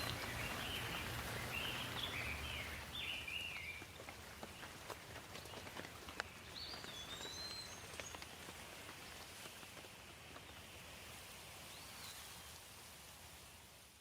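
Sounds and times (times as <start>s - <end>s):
light rain: 0.0s - 14.0s.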